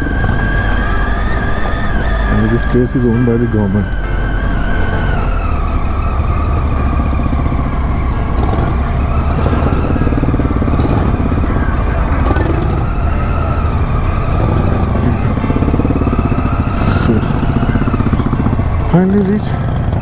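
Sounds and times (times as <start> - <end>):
motorcycle engine at low speed: 0.0 - 20.0.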